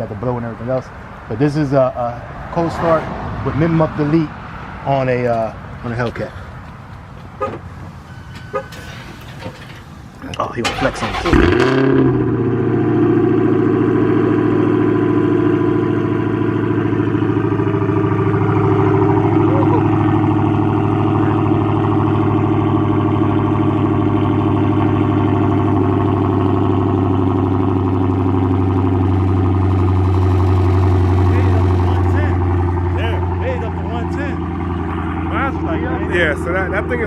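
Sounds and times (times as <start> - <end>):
loud engine idling: 3.6 - 37.0.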